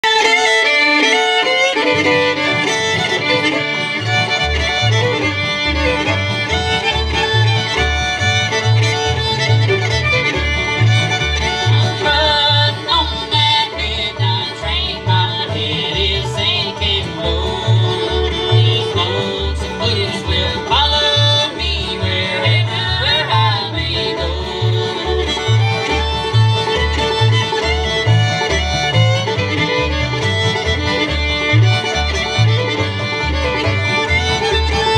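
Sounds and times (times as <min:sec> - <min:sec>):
banjo: 0:00.0 - 0:34.9
fiddle: 0:00.0 - 0:34.9
upright bass: 0:00.0 - 0:34.9.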